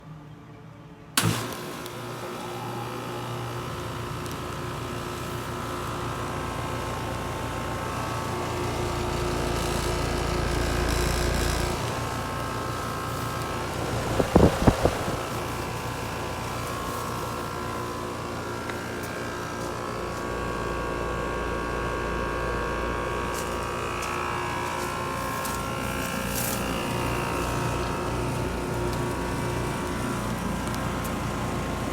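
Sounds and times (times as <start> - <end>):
air conditioner unit humming: 1.2 - 31.9
condenser fan rushing: 1.2 - 31.9.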